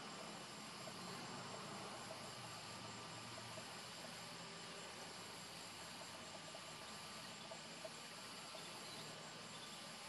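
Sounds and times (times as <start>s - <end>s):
crickets trilling: 0.0s - 10.0s
low background hiss: 0.0s - 10.0s.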